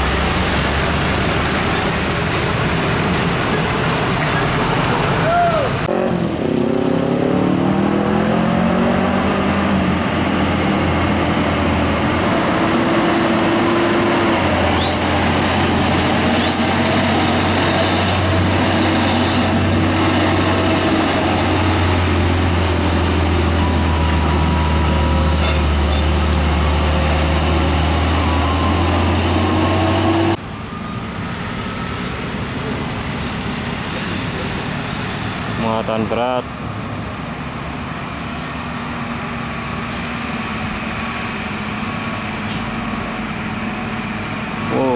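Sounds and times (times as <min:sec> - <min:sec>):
heavy diesel trucks droning: 0:00.0 - 0:44.9
quieter traffic: 0:00.0 - 0:44.9.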